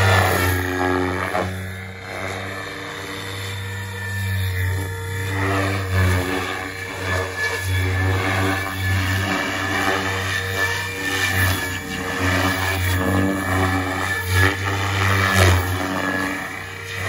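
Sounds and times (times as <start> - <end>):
model helicopter rotor drone: 0.0 - 17.0.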